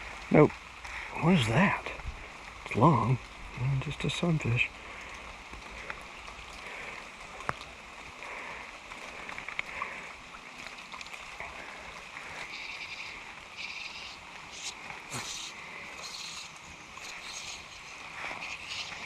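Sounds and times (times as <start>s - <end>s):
creek running: 0.0s - 19.0s.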